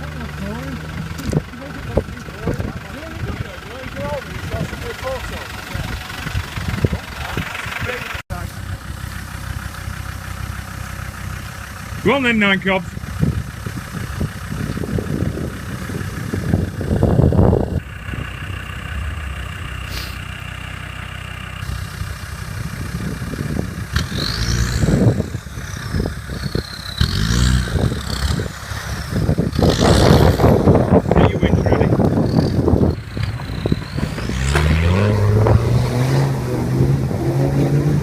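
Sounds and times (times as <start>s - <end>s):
diesel engine revving: 0.0s - 38.0s.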